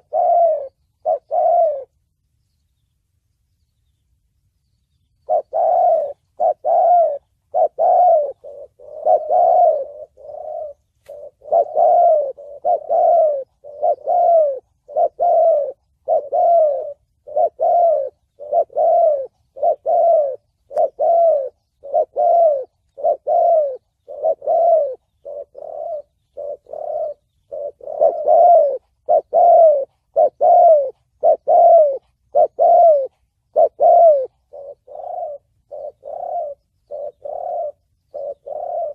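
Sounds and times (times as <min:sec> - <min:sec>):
dove cooing: 0:00.0 - 0:02.2, 0:05.1 - 0:38.9.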